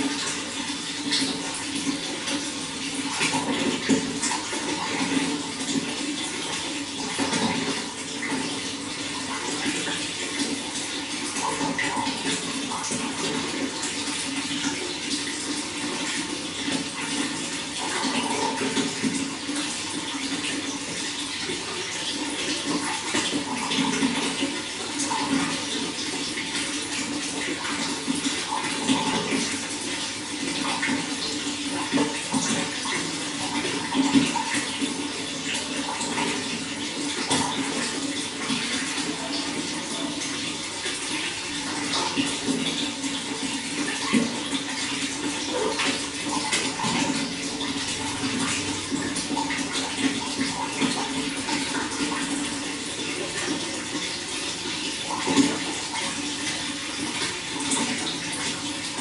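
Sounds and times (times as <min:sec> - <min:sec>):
running water splashing: 0:00.0 - 0:59.0.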